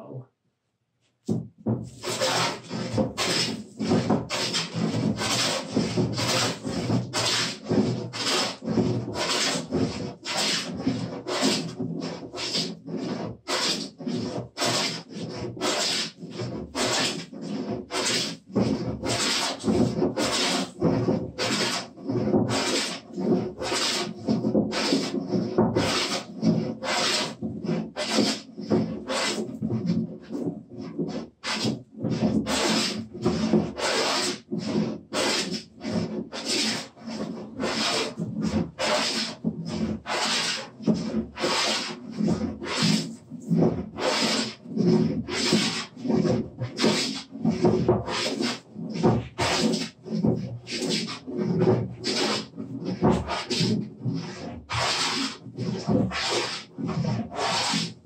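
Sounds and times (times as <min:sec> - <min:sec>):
hand plane shaving wood: 0:01.2 - 0:58.0.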